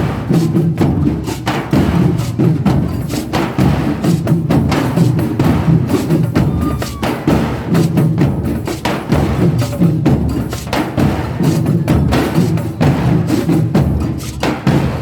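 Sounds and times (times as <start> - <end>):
drums being played: 0.0 - 15.0.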